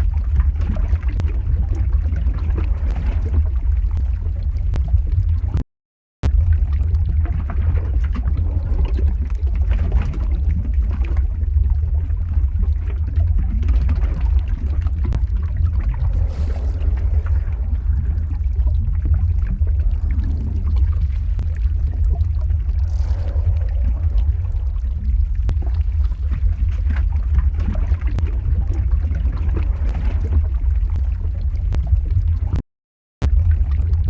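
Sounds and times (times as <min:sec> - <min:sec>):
crackles and pops: 0:00.0 - 0:05.6, 0:06.2 - 0:32.6, 0:33.2 - 0:34.0
deep rumble: 0:00.0 - 0:05.6, 0:06.2 - 0:32.6, 0:33.2 - 0:34.0.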